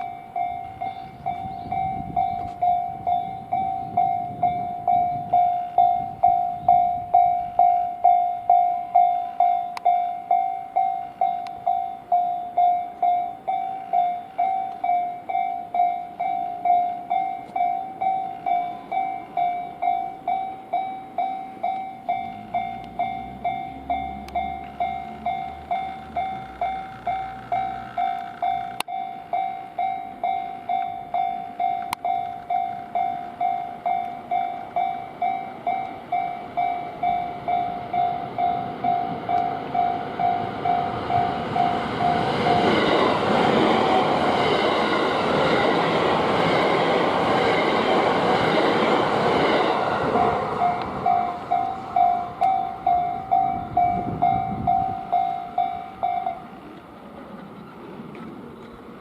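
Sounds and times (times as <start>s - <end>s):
level-crossing warning bell: 0.0s - 57.7s
train running noise: 0.0s - 59.0s.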